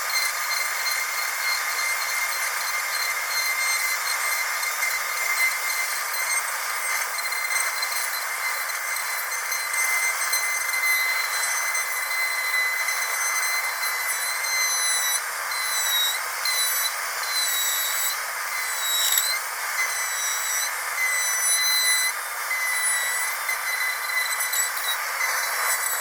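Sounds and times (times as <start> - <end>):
dental drill whining: 0.0 - 26.0.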